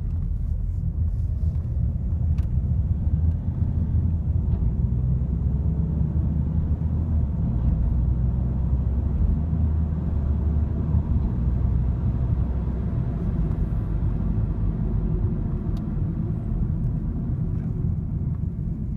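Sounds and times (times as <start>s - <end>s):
diesel car engine rumble: 0.0s - 18.9s.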